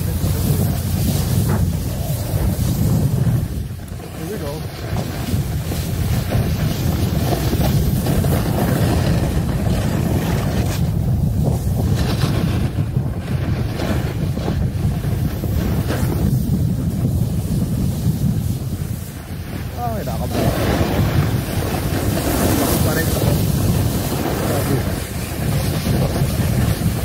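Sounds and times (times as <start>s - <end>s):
snowboard sliding over snow: 0.0s - 27.0s
wind buffeting microphone: 0.0s - 27.0s.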